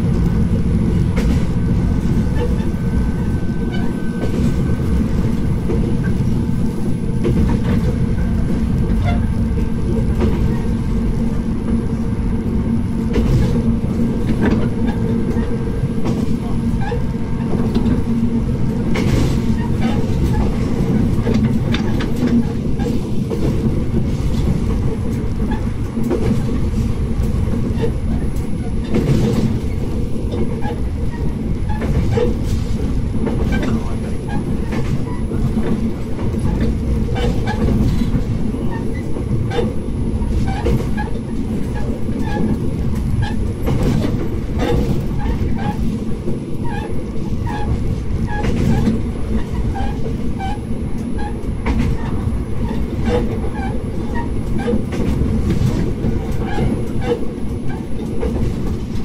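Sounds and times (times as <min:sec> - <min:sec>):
diesel railcar rumbling: 0:00.0 - 0:59.0.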